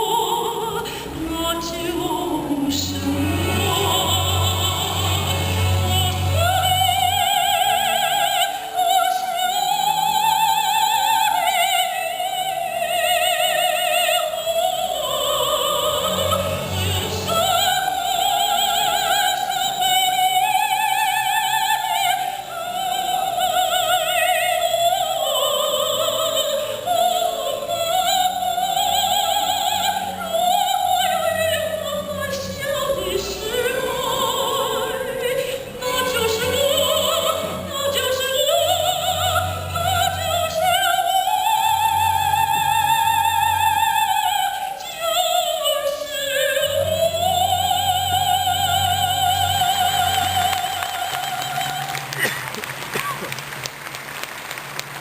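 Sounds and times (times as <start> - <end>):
soprano singing operatically: 0.0 - 52.4.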